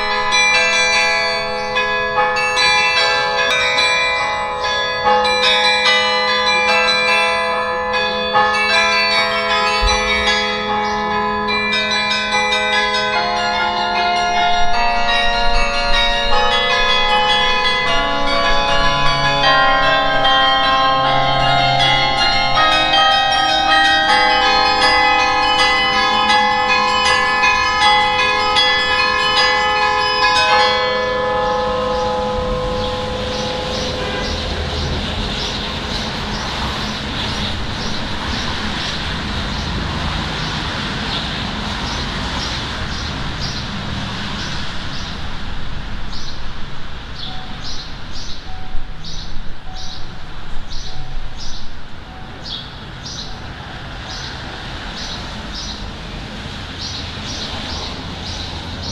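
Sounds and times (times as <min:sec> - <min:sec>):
carillon bells playing: 0:00.0 - 0:38.9, 0:47.2 - 0:55.8
steady background noise: 0:00.0 - 0:58.9.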